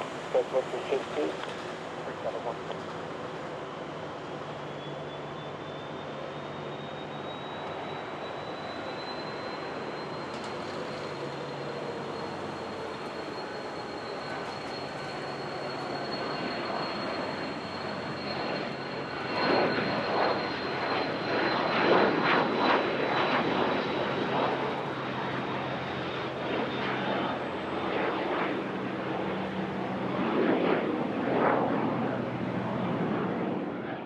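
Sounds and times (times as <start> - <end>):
jet engine high whine: 0.0 - 34.0
jet engines roaring: 0.0 - 34.0.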